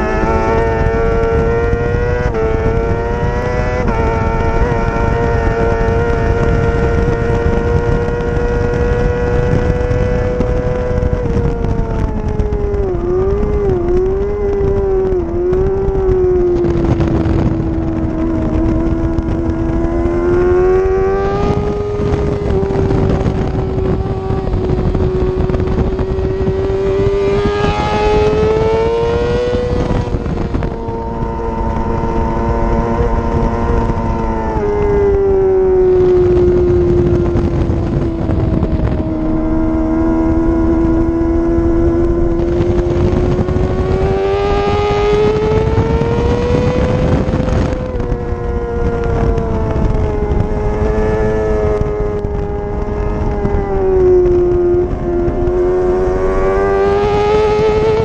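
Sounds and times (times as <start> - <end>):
racing motorcycle engine at high revs: 0.0 - 58.0
rushing wind: 0.0 - 58.0.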